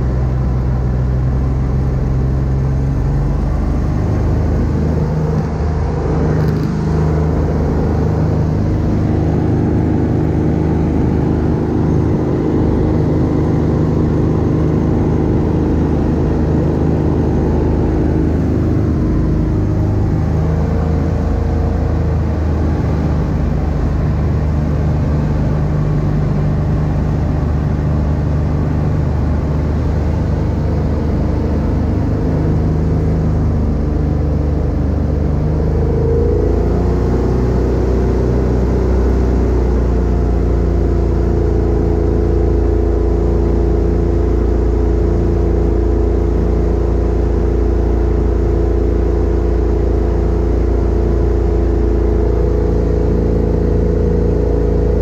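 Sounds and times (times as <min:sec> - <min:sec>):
aircraft engine and propeller: 0:00.0 - 0:55.0.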